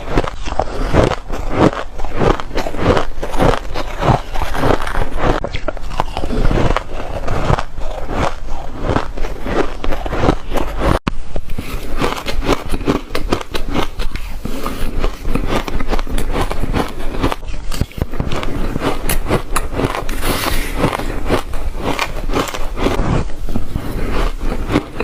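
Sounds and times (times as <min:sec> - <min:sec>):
ice being chewed crunching: 0:00.0 - 0:25.0.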